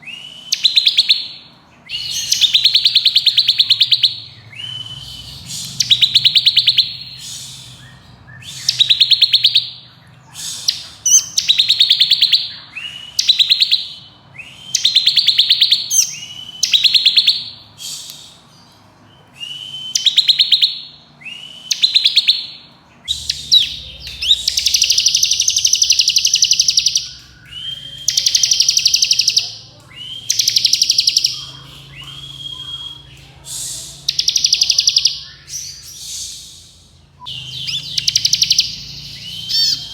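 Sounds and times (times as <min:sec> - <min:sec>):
bird singing rattling trills: 0:00.4 - 0:17.6, 0:21.3 - 0:36.2, 0:37.2 - 0:39.9.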